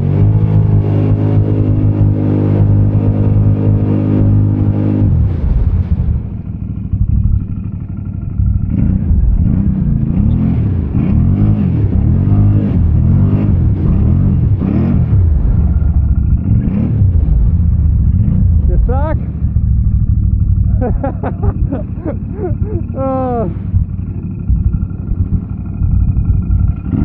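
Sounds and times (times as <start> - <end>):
quad engine revving: 0.0 - 27.0.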